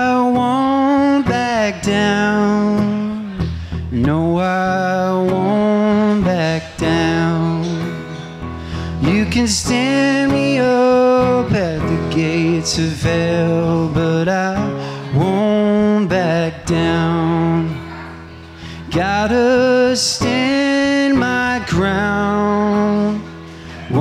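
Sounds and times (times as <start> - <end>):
man singing: 0.0 - 24.0
strummed acoustic guitar: 0.0 - 24.0.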